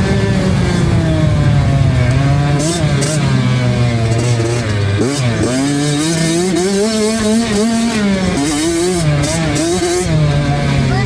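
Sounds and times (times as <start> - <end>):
two-stroke motocross engine revving: 0.0 - 11.0.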